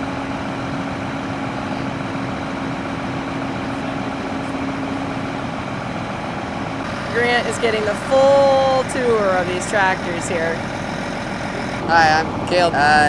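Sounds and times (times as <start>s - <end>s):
combine harvester engine running: 0.0s - 13.0s.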